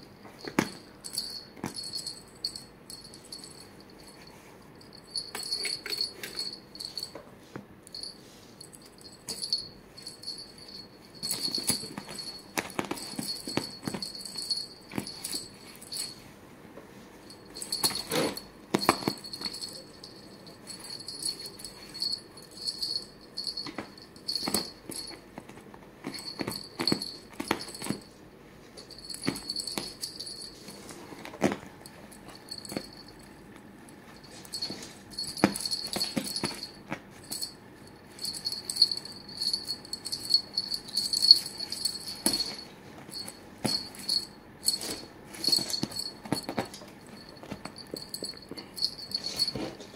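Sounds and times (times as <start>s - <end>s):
small bell jingling: 0.1s - 7.2s, 7.9s - 16.3s, 17.2s - 25.4s, 26.0s - 28.2s, 28.8s - 31.2s, 31.8s - 49.9s.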